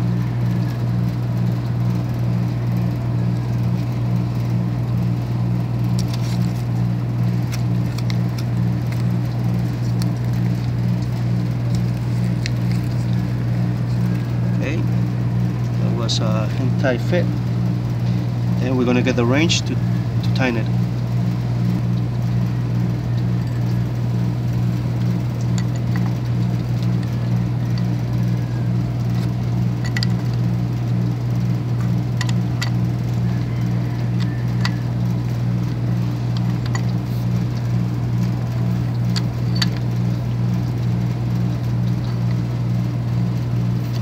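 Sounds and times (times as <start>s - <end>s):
motor humming: 0.0s - 44.0s.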